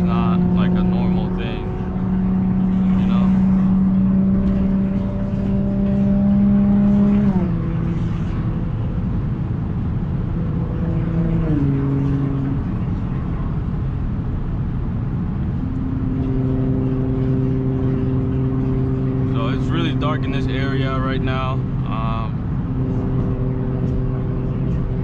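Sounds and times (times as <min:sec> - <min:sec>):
car exhaust drone: 0:00.0 - 0:25.0
road and tyre noise: 0:00.0 - 0:25.0.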